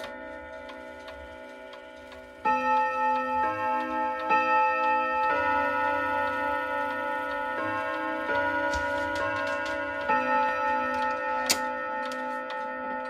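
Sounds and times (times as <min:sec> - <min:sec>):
clock chiming on gong rods: 0:00.0 - 0:13.0
clock ticking: 0:00.0 - 0:13.0.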